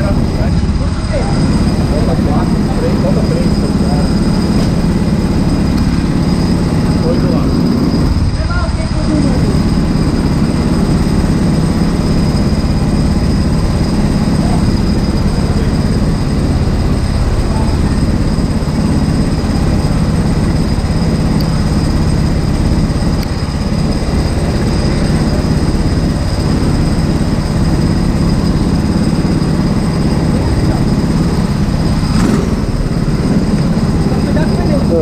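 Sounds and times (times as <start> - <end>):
kart engine running: 0.0 - 35.0.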